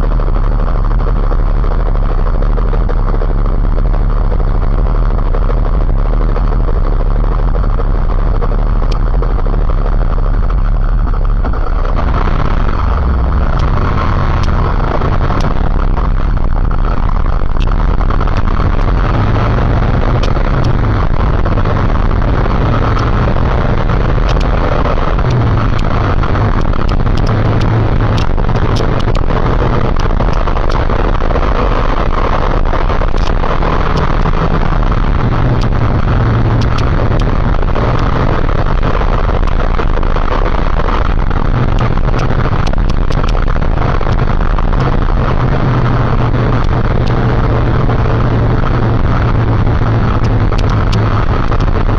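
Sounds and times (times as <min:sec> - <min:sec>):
motorcycle engine running: 0:00.0 - 0:51.9
wind noise: 0:00.0 - 0:51.9.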